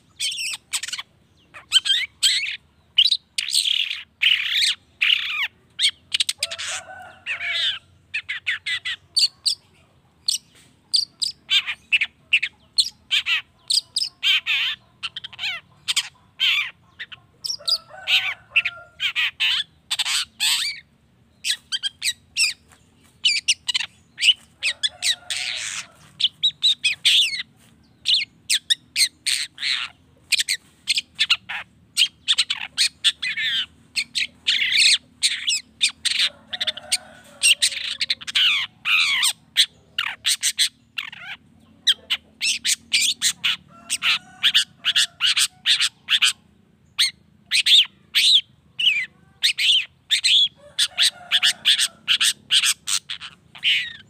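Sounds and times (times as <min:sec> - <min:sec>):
harsh bird squawks: 0:00.0 - 0:09.6, 0:10.2 - 0:54.0
bird chattering song: 0:00.0 - 0:54.0.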